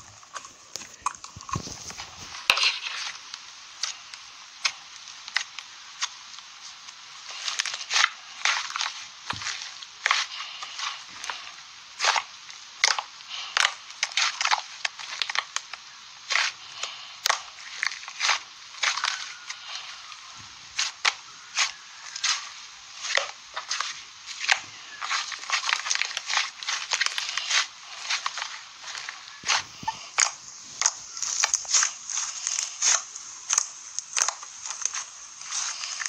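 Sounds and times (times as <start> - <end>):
crunching and crackling snaps: 0.0 - 36.0.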